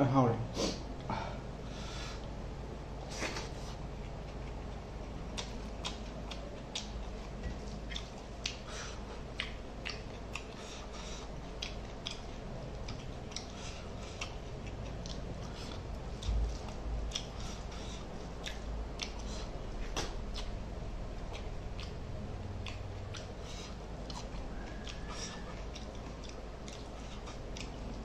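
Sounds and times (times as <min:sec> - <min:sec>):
chewing with wet mouth clicks: 0:03.3 - 0:20.6, 0:21.2 - 0:28.0.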